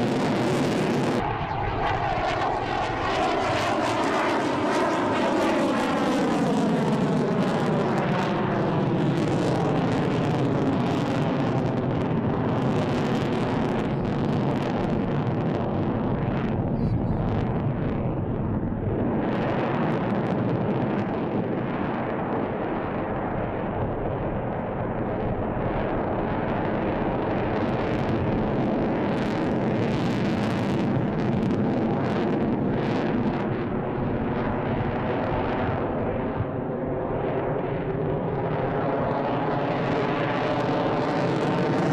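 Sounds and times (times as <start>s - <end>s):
jet engine roar: 0.0s - 41.9s.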